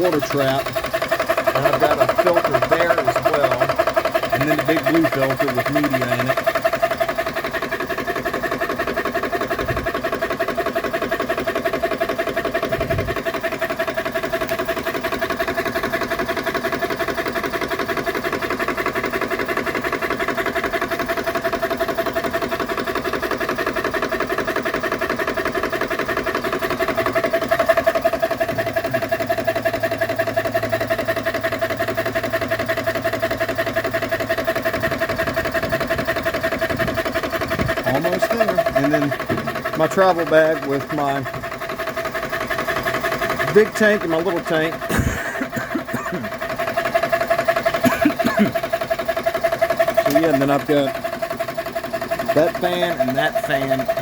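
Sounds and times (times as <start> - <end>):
air compressor chattering: 0.0 - 54.0.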